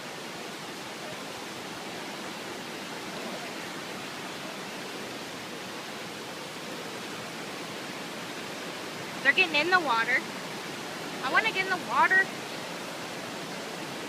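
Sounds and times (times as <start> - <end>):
fast-flowing river: 0.0 - 14.0.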